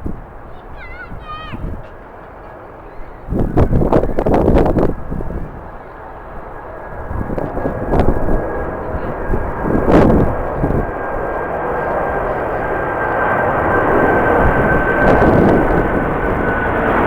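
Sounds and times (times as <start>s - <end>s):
jet airliner engines whining: 0.0s - 17.0s
wind buffeting microphone: 0.0s - 17.0s.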